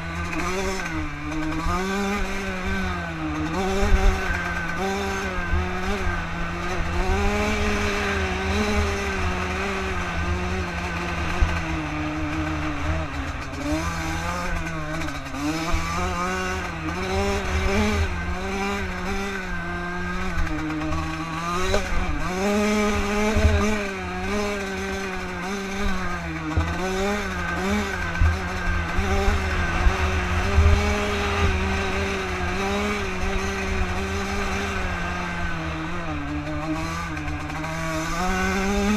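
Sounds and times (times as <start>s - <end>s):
two-stroke dirt bike engine revving: 0.0s - 38.9s.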